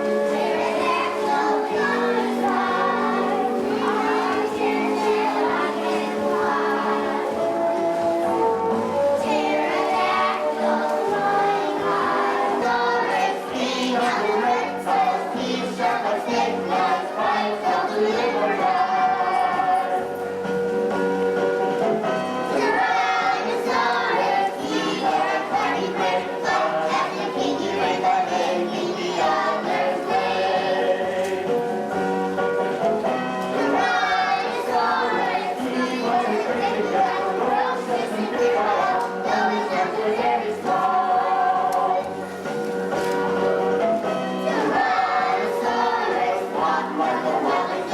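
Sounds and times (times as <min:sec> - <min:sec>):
group of voices singing: 0:00.0 - 0:07.6, 0:08.9 - 0:20.2, 0:22.4 - 0:32.0, 0:33.4 - 0:42.2, 0:44.0 - 0:47.9.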